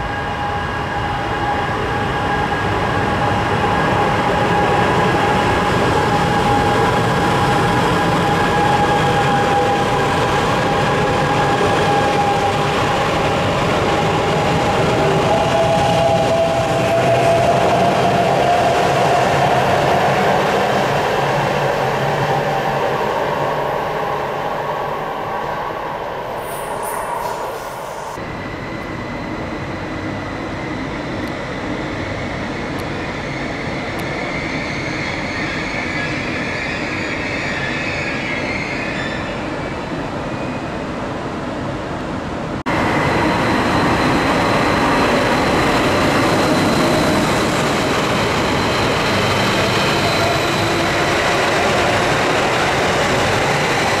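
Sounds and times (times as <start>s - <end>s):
electric train whine: 0.0s - 40.8s, 42.7s - 54.0s
train rumble with high whine: 0.0s - 54.0s.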